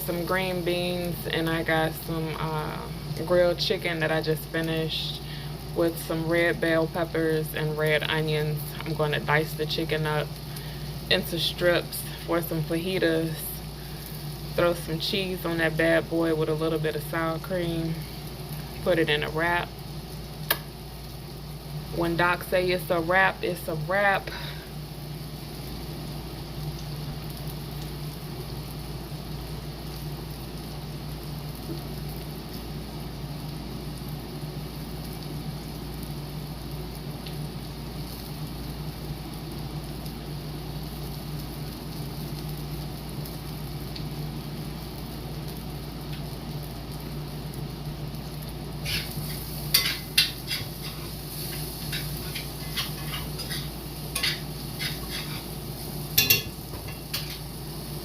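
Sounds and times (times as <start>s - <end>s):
green beans sizzling in a pan: 0.0s - 58.0s
steady low hum: 0.0s - 58.0s.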